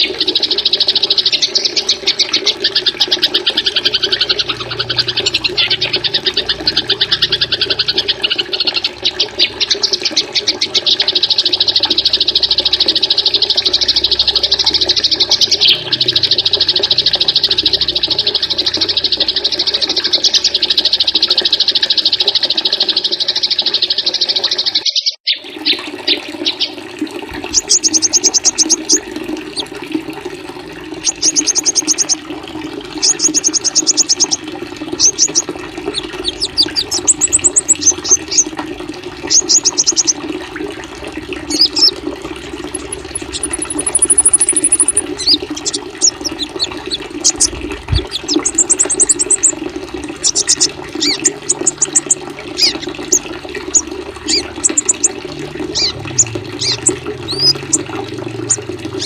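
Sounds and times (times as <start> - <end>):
running water rushing: 0.0 - 24.6, 25.4 - 59.0
songbirds chirping and trilling: 0.0 - 26.8, 27.4 - 29.7, 31.0 - 32.3, 33.0 - 38.6, 39.2 - 40.4, 41.3 - 59.0.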